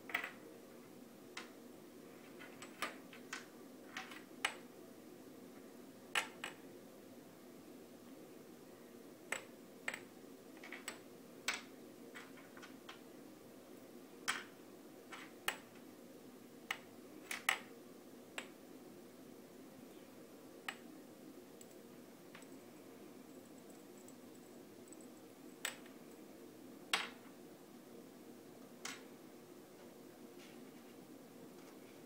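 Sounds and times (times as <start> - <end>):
faint room hum: 0.0 - 32.0.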